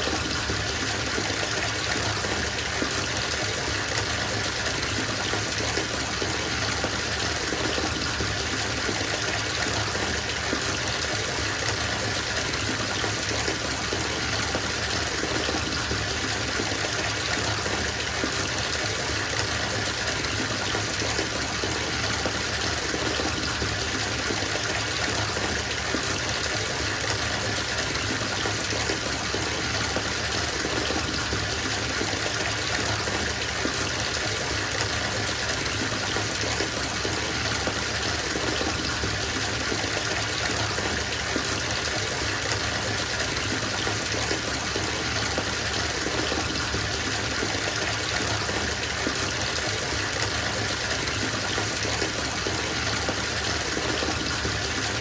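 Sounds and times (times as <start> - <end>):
water pouring into bathtub: 0.0 - 55.0.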